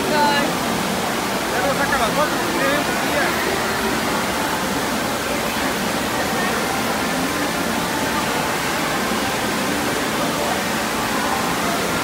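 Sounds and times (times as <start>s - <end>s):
water pouring into a pool: 0.0s - 12.0s.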